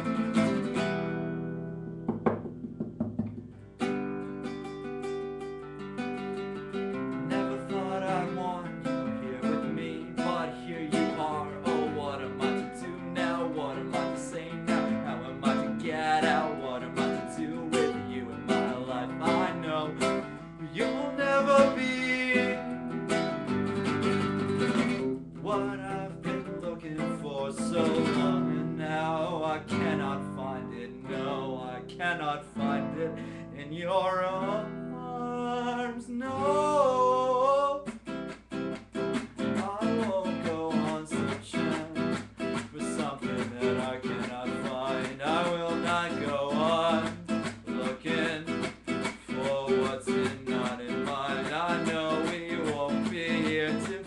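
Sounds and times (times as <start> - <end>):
man singing: 0.0 - 1.5, 4.4 - 38.1, 39.1 - 54.0
acoustic guitar strumming: 0.0 - 54.0.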